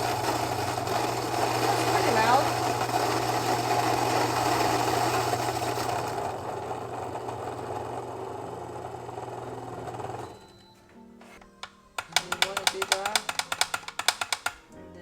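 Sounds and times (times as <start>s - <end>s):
electric coffee grinder grinding: 0.0s - 10.5s, 12.0s - 14.5s.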